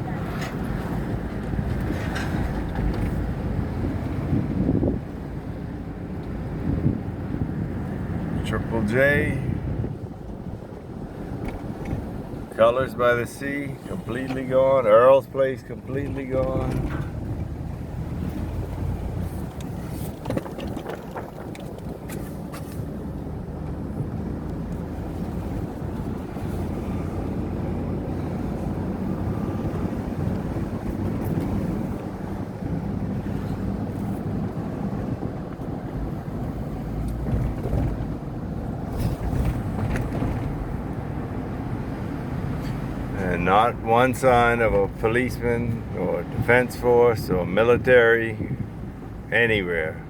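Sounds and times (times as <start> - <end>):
truck engine rumble: 0.0 - 50.0.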